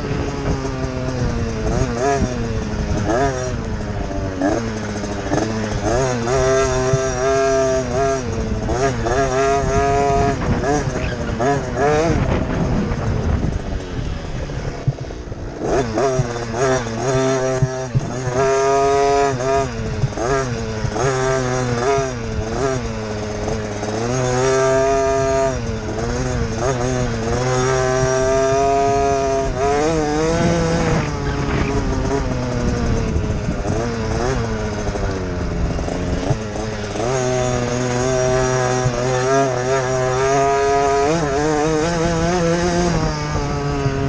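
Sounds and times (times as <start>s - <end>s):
motocross bike engine revving: 0.0s - 44.0s.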